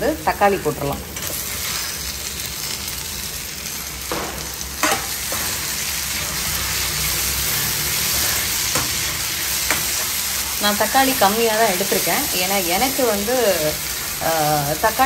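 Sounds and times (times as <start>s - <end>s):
onions and tomatoes sizzling: 0.0s - 15.0s.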